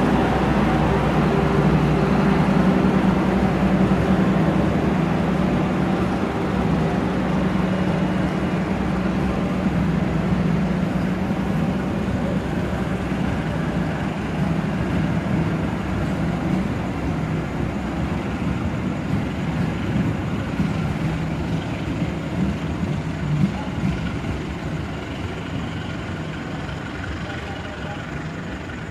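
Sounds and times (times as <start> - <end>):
diesel engine hum: 0.0 - 28.9
train running rumble: 0.0 - 28.9.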